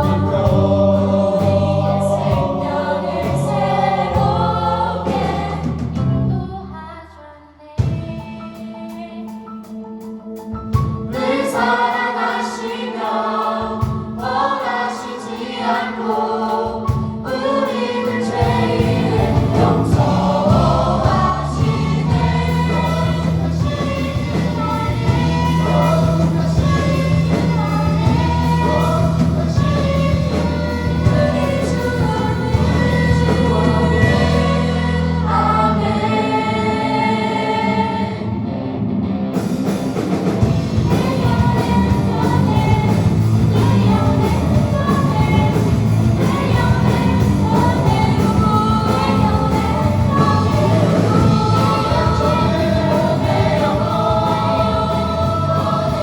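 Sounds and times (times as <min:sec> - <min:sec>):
choir singing gospel song: 0:00.0 - 0:09.8, 0:11.0 - 0:38.8, 0:40.0 - 0:56.0.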